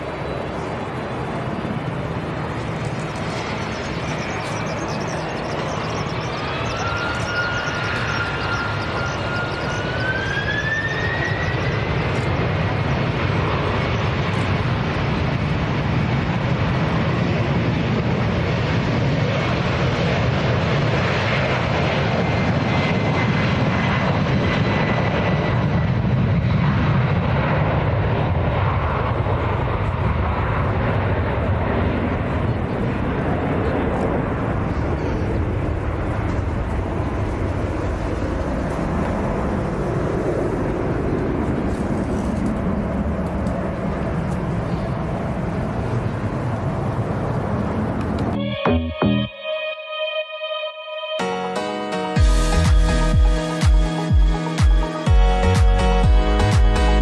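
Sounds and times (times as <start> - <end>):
jet engines rushing and whining: 0.0 - 57.0.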